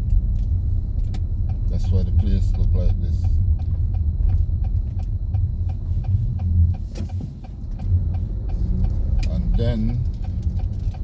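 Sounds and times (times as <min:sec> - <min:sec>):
car engine low rumble: 0:00.0 - 0:11.0
light regular ticking: 0:00.0 - 0:11.0.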